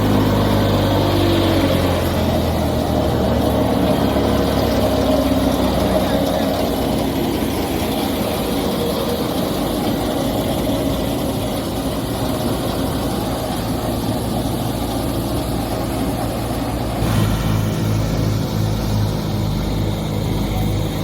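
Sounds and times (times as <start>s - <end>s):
harvester engine running: 0.0s - 21.0s.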